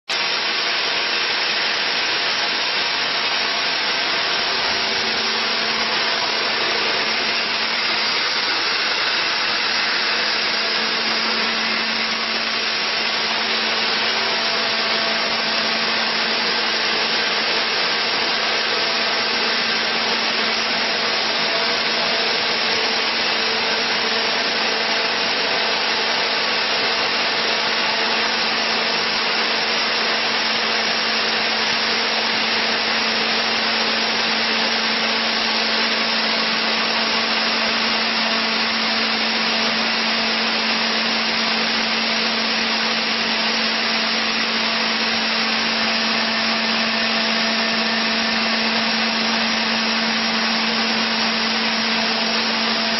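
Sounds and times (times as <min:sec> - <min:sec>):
chainsaw cutting through wood: 0:00.1 - 0:52.9.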